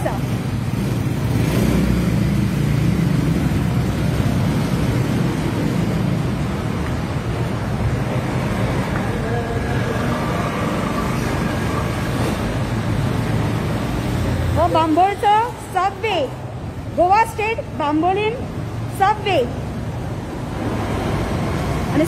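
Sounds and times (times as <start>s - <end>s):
vehicles passing on road: 0.0s - 22.0s.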